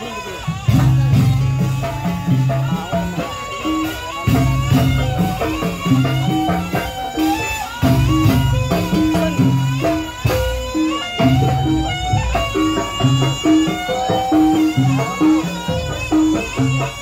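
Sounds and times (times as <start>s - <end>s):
melody of held notes: 0.0s - 17.0s
steady drum beat: 0.0s - 17.0s.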